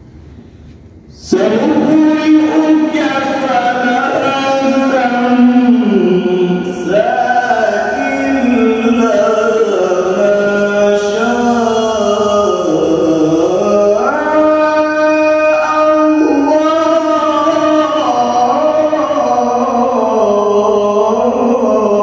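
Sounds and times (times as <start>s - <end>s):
man reciting in melodic chant: 1.1s - 22.0s.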